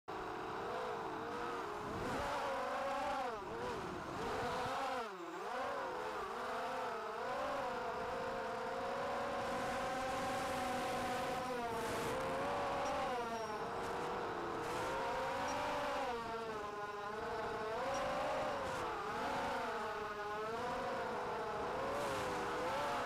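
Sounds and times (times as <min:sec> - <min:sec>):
quadcopter motor whine: 0:00.6 - 0:23.0.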